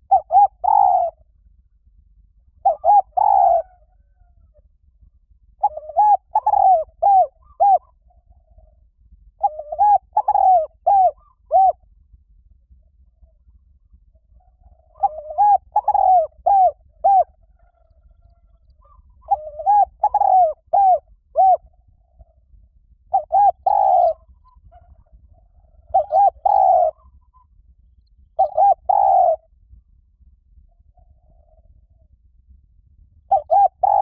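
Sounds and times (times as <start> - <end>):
dove cooing: 0.0 - 1.3, 2.6 - 4.7, 5.6 - 11.9, 12.8 - 27.6, 28.4 - 29.5, 30.8 - 32.2, 33.2 - 34.0.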